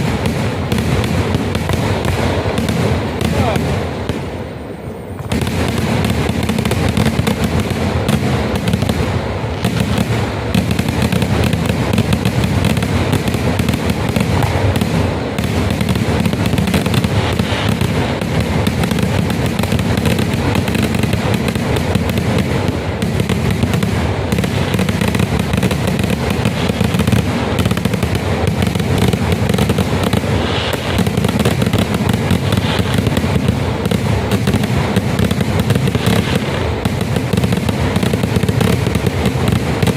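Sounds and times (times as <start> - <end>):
firecracker explosions: 0.0 - 39.9.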